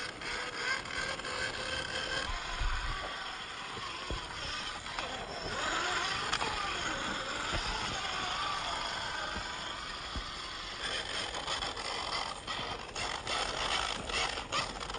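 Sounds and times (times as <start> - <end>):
electric motor whining: 0.0 - 14.9.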